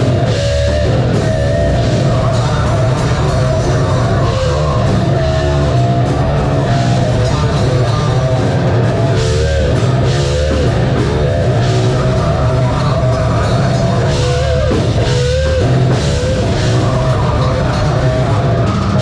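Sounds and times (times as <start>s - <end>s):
distorted guitars: 0.0s - 19.0s
drum kit: 0.0s - 19.0s.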